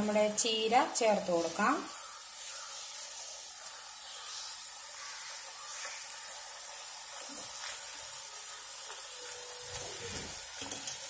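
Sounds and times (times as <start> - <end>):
spatula stirring leaves in pan: 0.0 - 11.0
steady hiss: 0.0 - 11.0.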